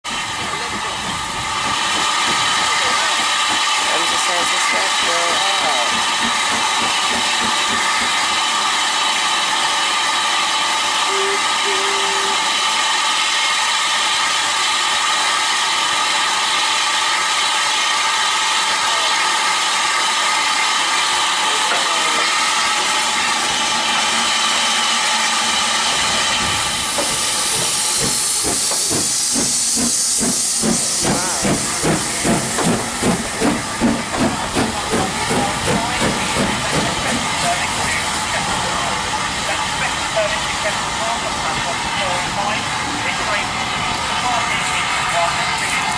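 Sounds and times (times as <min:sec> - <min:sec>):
rhythmic steam locomotive beats: 0:00.1 - 0:45.9
hiss of escaping steam: 0:00.2 - 0:45.9.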